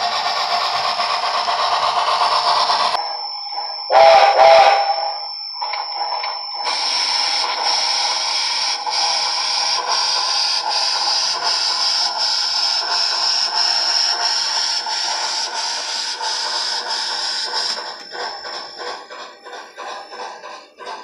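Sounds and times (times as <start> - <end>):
model steam locomotive sounds: 0.0 - 21.0.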